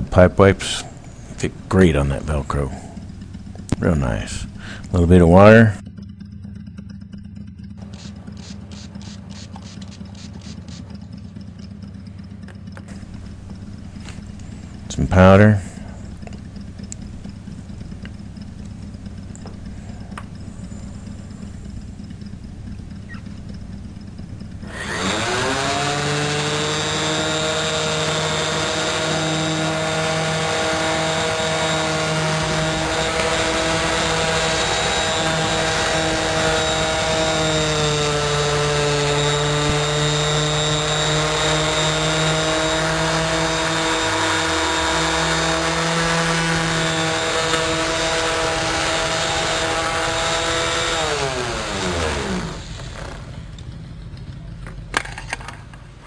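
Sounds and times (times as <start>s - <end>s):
orbital sander running: 0.0s - 55.5s.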